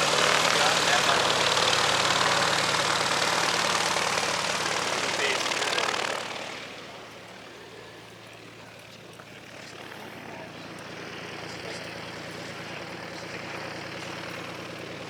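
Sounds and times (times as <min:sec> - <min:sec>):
propeller airplane engine: 0:00.0 - 0:15.0.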